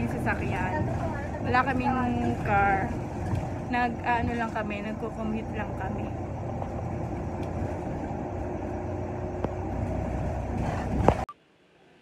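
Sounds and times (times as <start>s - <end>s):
bus engine and road rumble: 0.0s - 11.3s.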